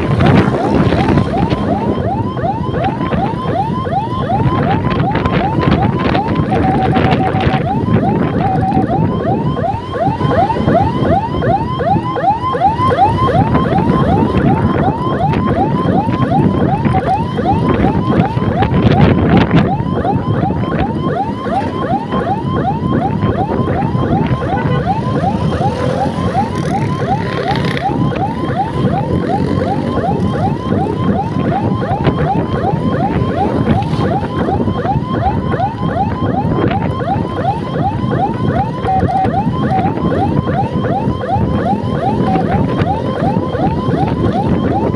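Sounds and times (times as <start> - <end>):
electronic siren yelping: 0.0 - 44.9
road noise: 0.0 - 44.9.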